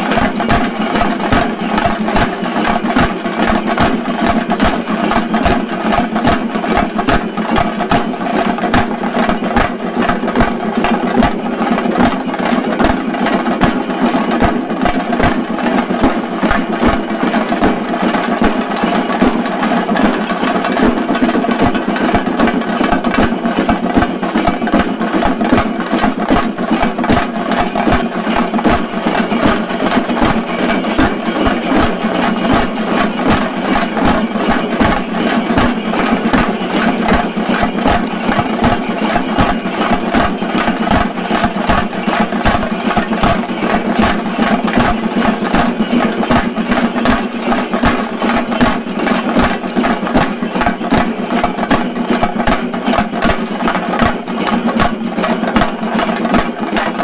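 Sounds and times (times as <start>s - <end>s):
fast drum roll: 0.0s - 57.0s.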